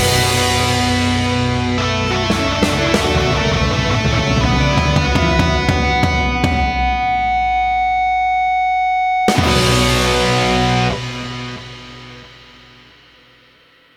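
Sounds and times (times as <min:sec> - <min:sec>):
distorted electric guitar rock: 0:00.0 - 0:13.4.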